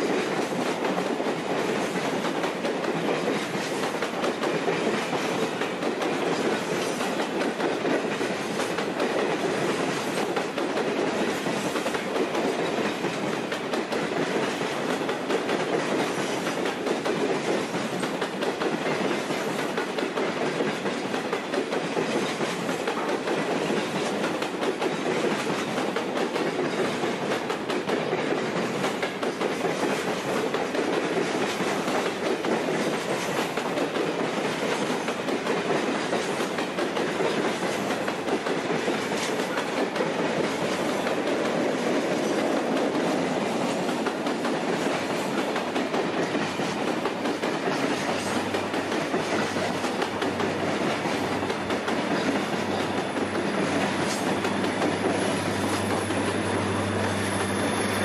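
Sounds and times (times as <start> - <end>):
freight cars rolling on rails: 0.0 - 58.0.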